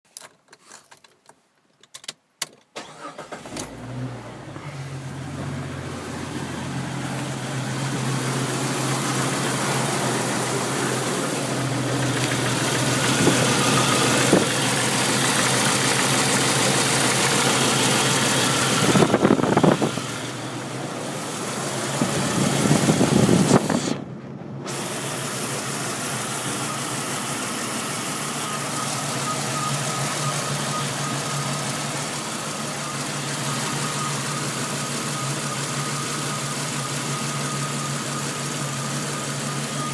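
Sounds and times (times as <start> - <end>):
car engine idling roughly: 4.4 - 24.1, 24.7 - 39.9.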